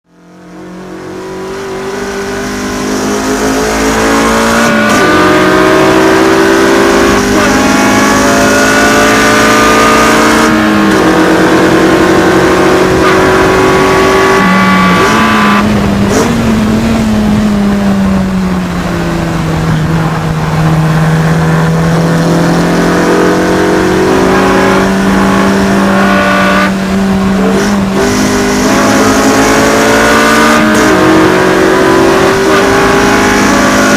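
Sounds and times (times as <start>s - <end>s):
race car engine at full throttle: 0.0s - 33.9s.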